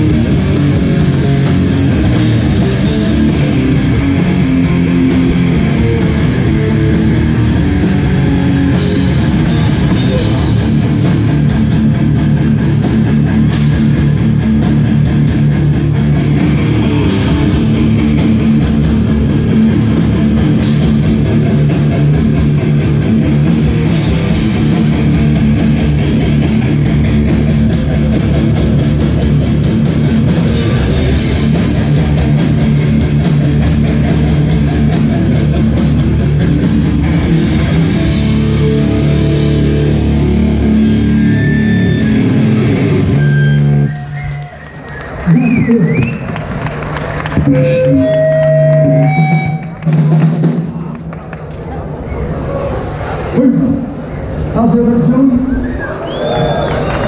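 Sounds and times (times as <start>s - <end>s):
drum kit: 0.0s - 44.4s, 45.2s - 51.4s
bass guitar: 0.0s - 57.0s
distorted electric guitars: 0.0s - 57.0s.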